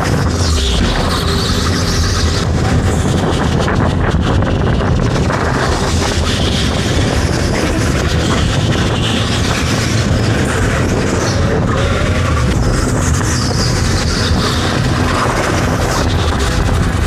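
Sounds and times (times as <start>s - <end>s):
go-kart running noise: 0.0s - 17.0s.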